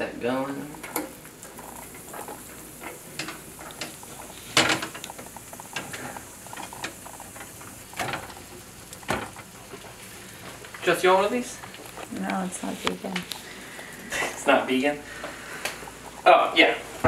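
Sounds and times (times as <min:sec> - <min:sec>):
butter sizzling on a hot pan: 0:00.0 - 0:17.0.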